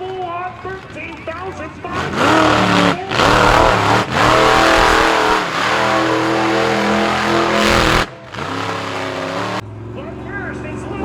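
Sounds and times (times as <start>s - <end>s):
truck engine revving hard: 0.0s - 9.6s.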